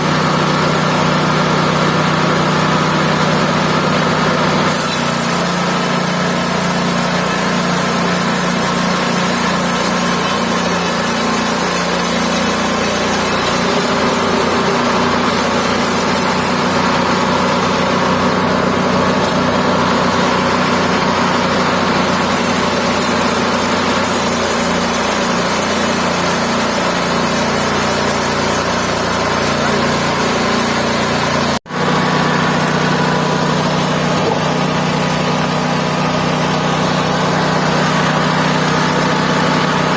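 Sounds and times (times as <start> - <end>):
band sawmill engine running: 0.0 - 39.9.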